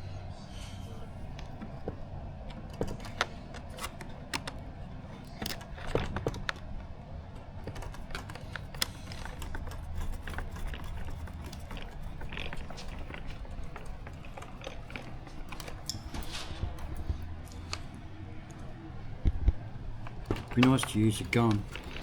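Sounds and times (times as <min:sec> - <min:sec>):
small clicks and taps of plastic parts: 0:01.3 - 0:22.0.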